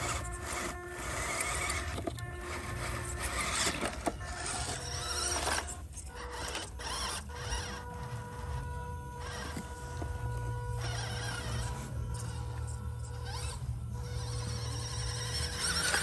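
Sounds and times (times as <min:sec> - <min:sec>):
toy truck electric motor whirring: 0:00.0 - 0:16.0.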